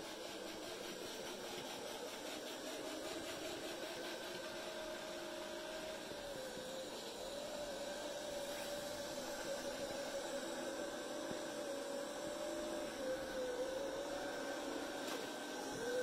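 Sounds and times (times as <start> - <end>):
robot vacuum whirring on carpet: 0.0 - 16.0.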